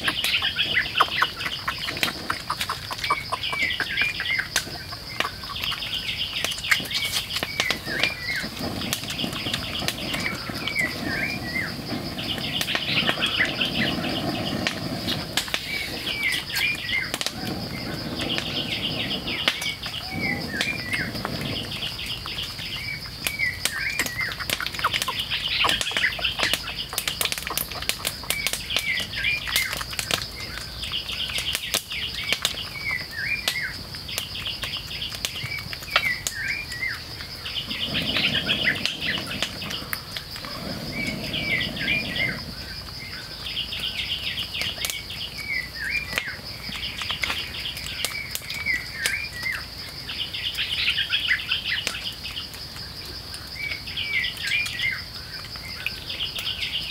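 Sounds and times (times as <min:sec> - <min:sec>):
bird chirping song: 0:00.0 - 0:52.6
high insect drone: 0:00.0 - 0:56.9.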